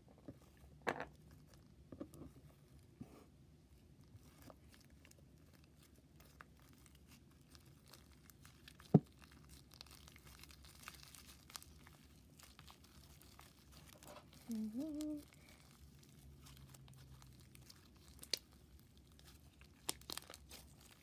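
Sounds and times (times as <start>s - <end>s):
slime crackling and tearing: 4.0s - 21.0s.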